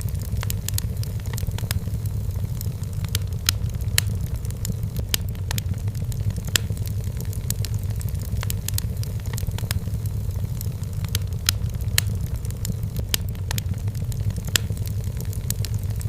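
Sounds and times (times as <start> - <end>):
low rumble of fire: 0.0 - 16.0
wood fire crackling and popping: 0.0 - 16.0.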